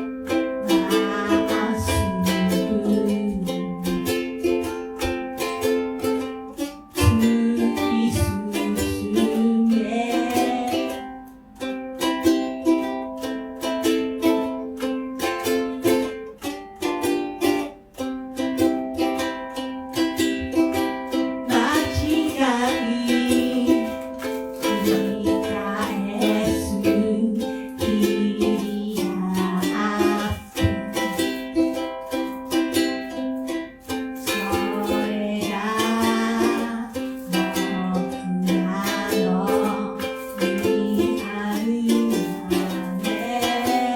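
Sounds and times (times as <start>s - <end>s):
ukulele strumming chords: 0.0s - 43.9s.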